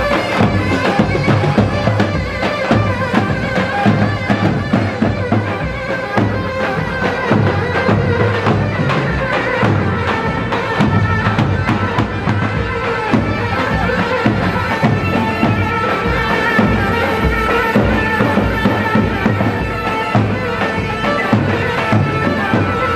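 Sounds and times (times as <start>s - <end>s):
steady drum beat: 0.0s - 22.9s
sustained folk melody: 0.0s - 22.9s.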